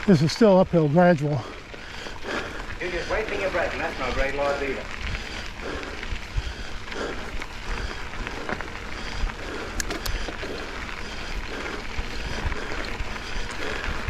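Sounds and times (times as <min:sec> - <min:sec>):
bike tyres crunching over ground: 0:00.0 - 0:14.0
sharp ticks: 0:00.1 - 0:14.0.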